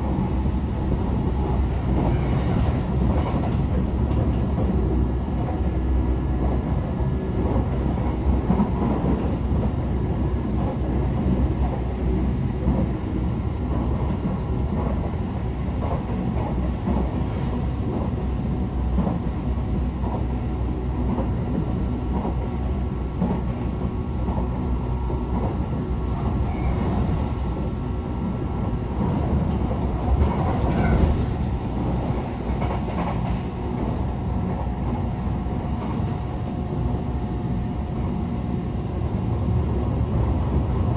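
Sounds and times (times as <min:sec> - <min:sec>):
train running rumble: 0:00.0 - 0:40.9.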